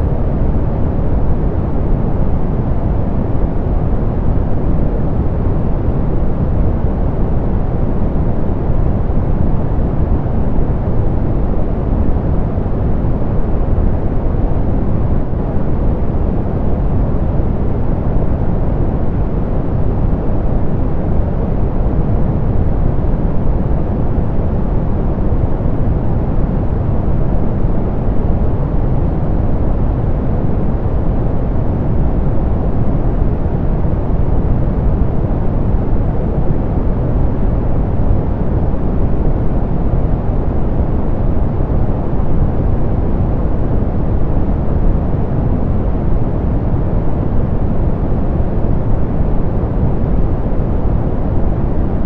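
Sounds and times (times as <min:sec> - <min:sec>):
deep smooth pink noise hiss: 0:00.0 - 0:52.0.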